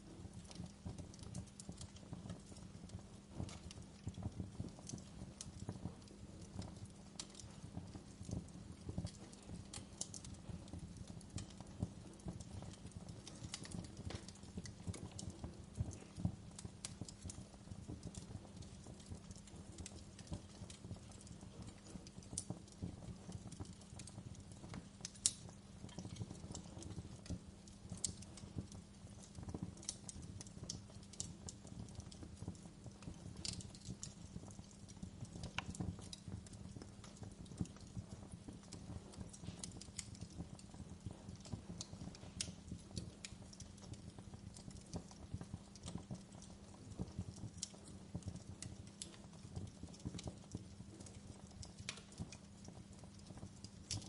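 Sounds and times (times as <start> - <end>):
fireplace crackling: 0.0 - 54.0.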